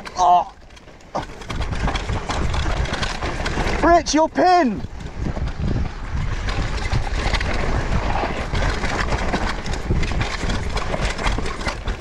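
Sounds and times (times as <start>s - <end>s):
bike rattling: 0.0s - 12.0s
bike tyres on dirt: 0.0s - 12.0s
wind rumble on microphone: 0.0s - 12.0s.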